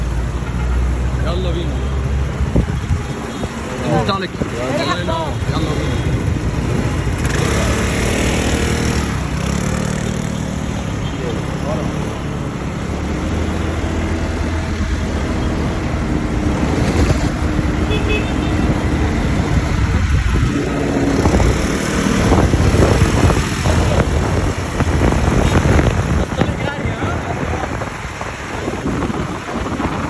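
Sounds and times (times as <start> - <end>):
wind rushing over microphone: 2.0 - 9.6, 12.2 - 30.0.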